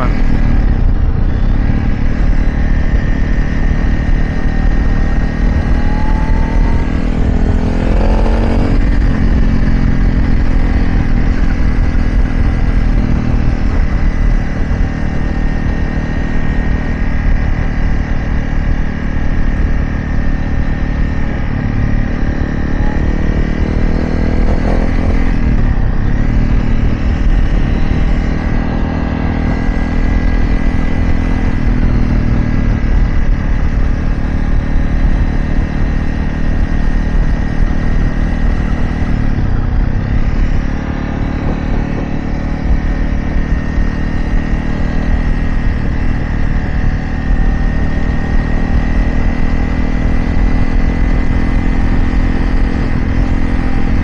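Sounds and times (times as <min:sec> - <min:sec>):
dirt bike engine: 0:00.0 - 0:54.0
wind rumble on microphone: 0:00.0 - 0:54.0.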